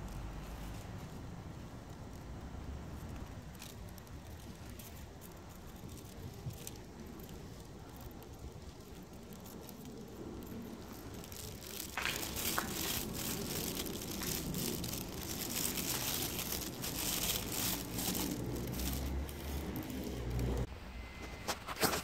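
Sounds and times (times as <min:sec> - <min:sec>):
plastic crinkling: 0:02.9 - 0:20.7.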